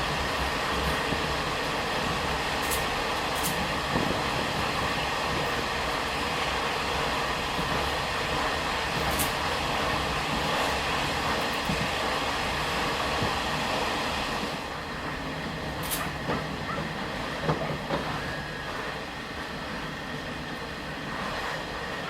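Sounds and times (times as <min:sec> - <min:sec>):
train rumbling and rattling: 0:00.0 - 0:22.0.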